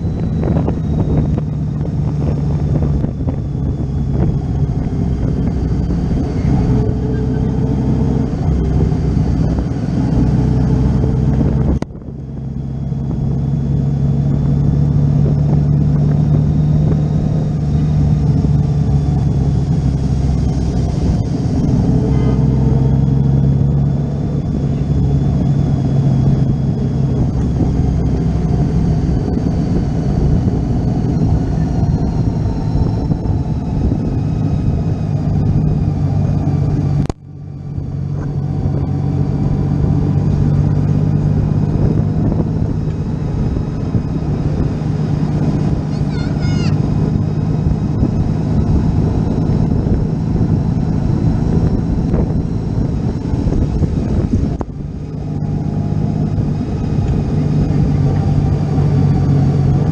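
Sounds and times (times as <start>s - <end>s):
motorcycle engine hum: 0.0s - 59.9s
road and wind noise: 0.0s - 59.9s.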